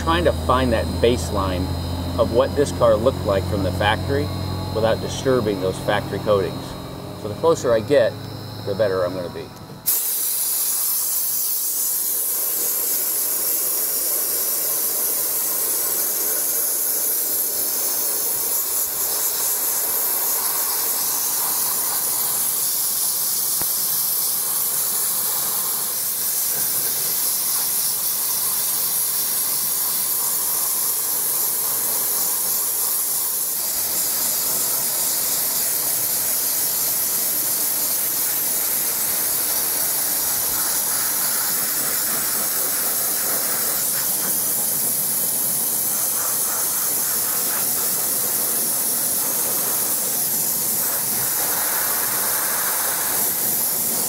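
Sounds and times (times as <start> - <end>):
dry ice blasting gun hissing: 0.0 - 54.0.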